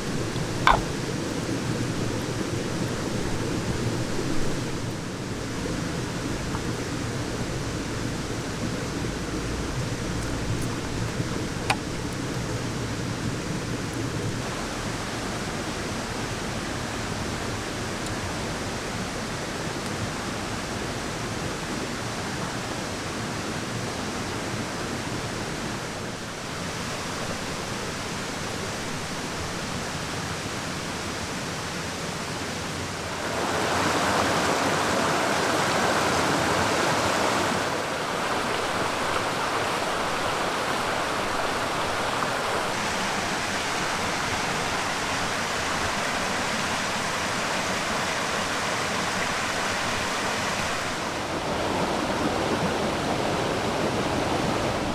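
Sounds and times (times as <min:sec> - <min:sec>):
rushing water hiss: 0:00.0 - 0:54.9.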